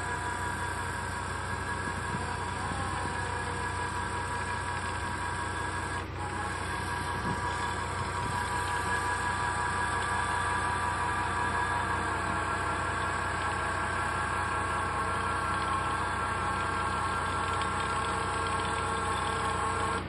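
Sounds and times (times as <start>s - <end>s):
ground-screw driver humming: 0.0s - 20.0s.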